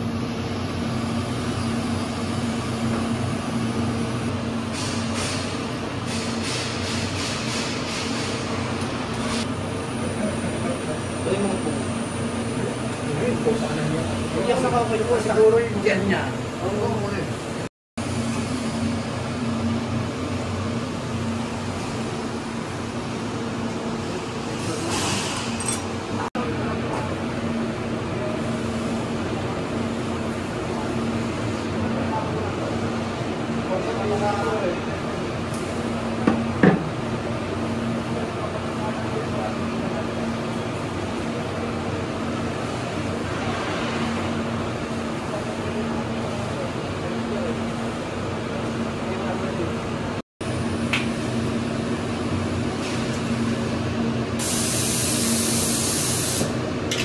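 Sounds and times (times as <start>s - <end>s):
cooling equipment fan hum: 0.0s - 57.0s.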